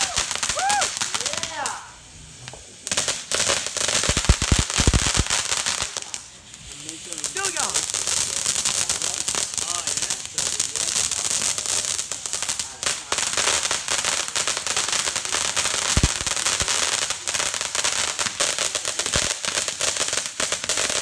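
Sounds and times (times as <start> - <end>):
firecrackers crackling and popping: 0.0 - 21.0
deep firework bangs: 2.4 - 6.3, 7.2 - 21.0.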